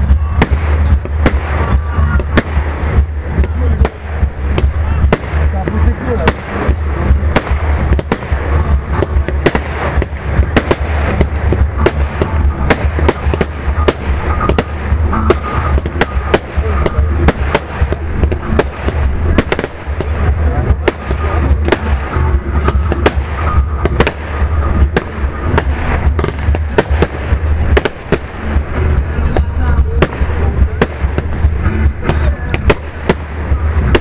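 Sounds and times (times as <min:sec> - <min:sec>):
fireworks bangs and pops: 0:00.0 - 0:34.0
low rumble: 0:00.0 - 0:34.0.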